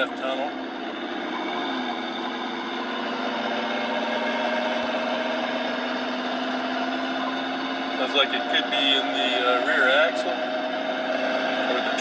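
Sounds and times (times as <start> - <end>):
drivetrain whine: 0.0 - 12.0
road noise inside car: 0.0 - 12.0.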